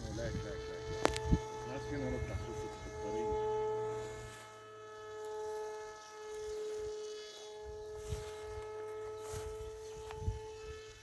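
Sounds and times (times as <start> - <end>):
electric motor propeller drone: 0.0 - 11.0.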